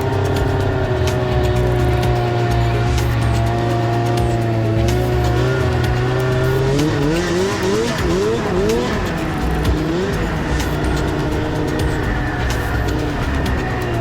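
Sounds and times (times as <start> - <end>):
background music: 0.0 - 14.0
snowmobile engine revving: 0.0 - 14.0.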